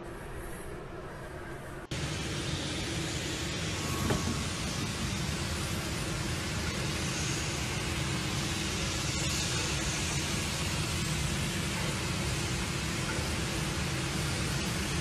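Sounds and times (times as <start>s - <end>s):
continuous rushing sound: 0.0s - 15.0s.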